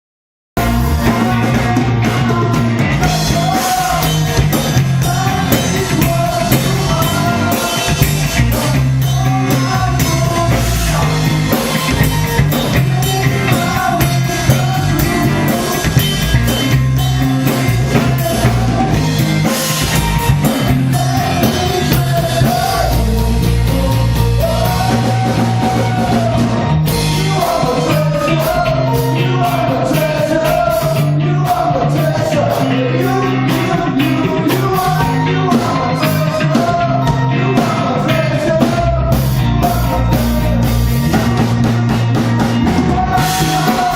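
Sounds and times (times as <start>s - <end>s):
person singing: 0.6s - 43.9s
rock band playing live: 0.6s - 43.9s.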